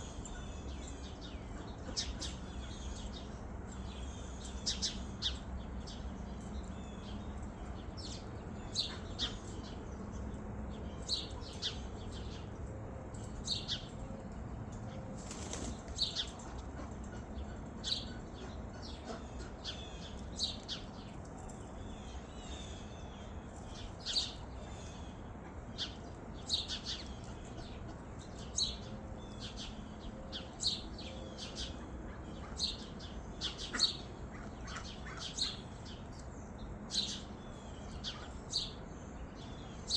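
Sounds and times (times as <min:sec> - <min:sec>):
birds chirping: 0:00.0 - 0:39.9
outdoor background noise: 0:00.0 - 0:39.9.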